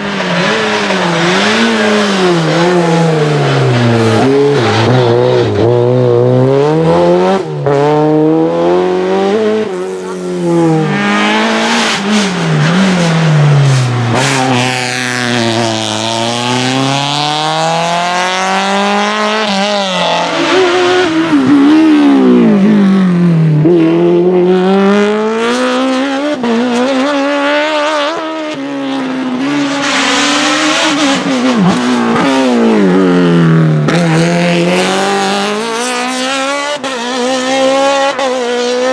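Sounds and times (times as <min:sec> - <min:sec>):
race car engines accelerating: 0:00.0 - 0:38.9.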